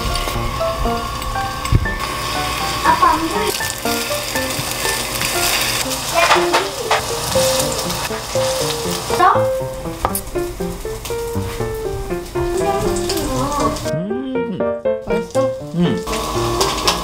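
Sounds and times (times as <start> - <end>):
patties sizzling in oil: 0.0 - 13.9, 15.0 - 17.0.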